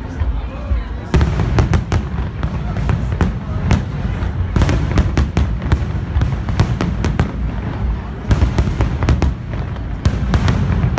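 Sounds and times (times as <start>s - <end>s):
fireworks bangs: 1.1s - 10.9s.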